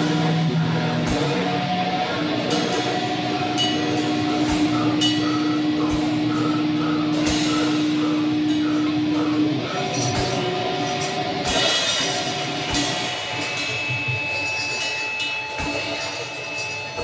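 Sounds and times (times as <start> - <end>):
harsh noise droning: 0.0 - 17.0
metallic cymbal hits: 0.0 - 17.0.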